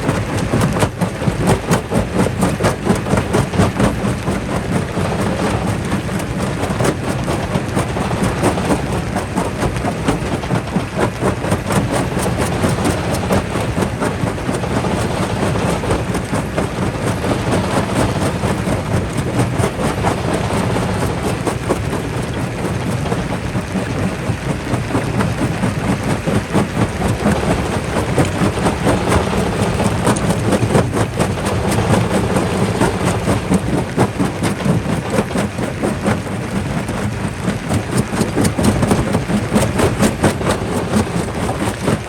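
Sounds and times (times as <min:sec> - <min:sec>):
jaw crusher rumbling: 0:00.0 - 0:42.0.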